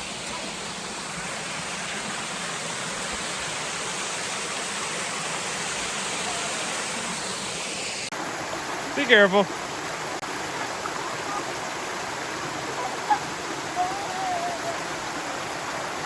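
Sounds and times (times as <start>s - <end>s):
small waterfall pouring and splashing: 0.0s - 16.0s.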